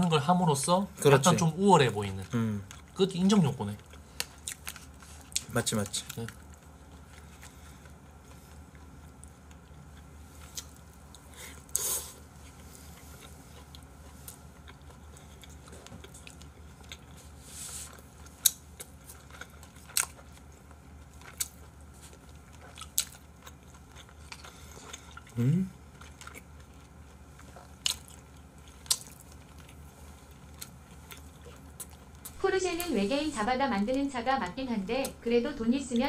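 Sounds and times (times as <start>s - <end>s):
quiet chewing: 2.0s - 35.2s.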